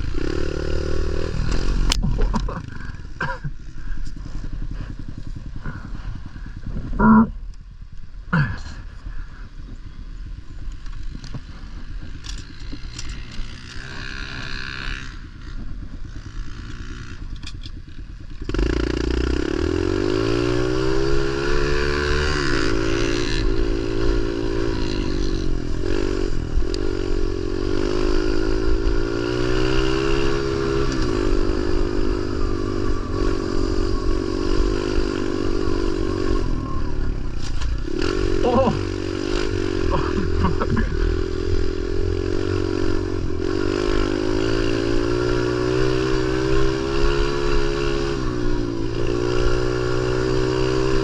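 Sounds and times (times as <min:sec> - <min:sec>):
pit bike engine revving: 0:00.0 - 0:07.4, 0:11.0 - 0:51.0.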